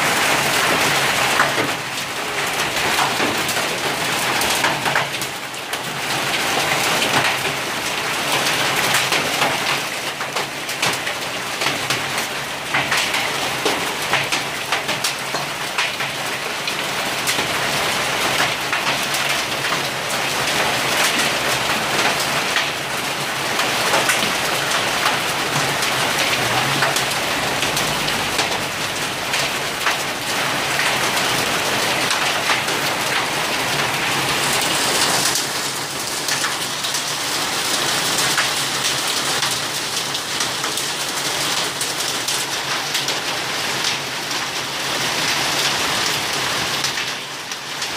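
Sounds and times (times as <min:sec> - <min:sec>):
hail striking hard surfaces: 0:00.0 - 0:47.9.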